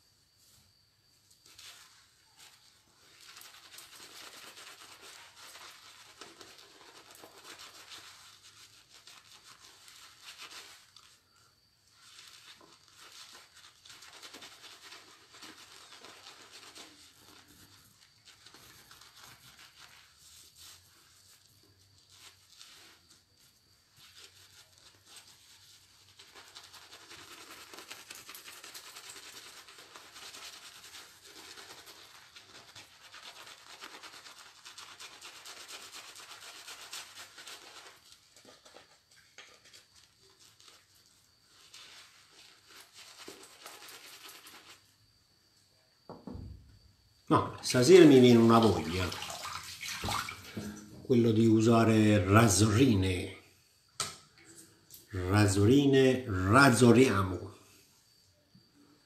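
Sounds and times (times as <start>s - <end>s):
shaving brush scrubbing lather: 1.3s - 44.9s, 47.3s - 53.3s, 55.0s - 57.4s.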